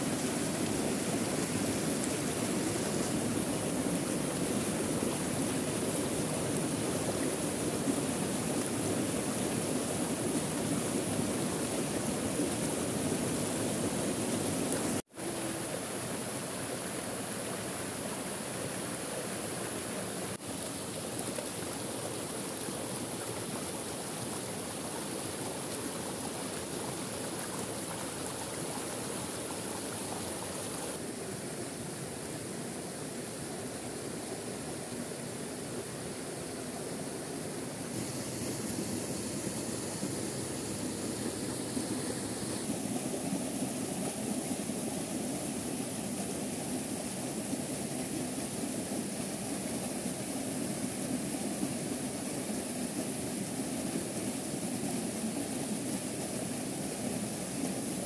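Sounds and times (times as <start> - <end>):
waterfall and stream rushing: 0.0 - 58.0.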